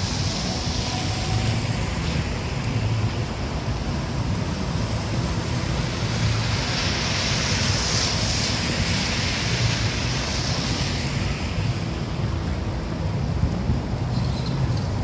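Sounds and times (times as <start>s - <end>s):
rain hissing on wet pavement: 0.0s - 15.0s
wind buffeting microphone: 0.0s - 15.0s.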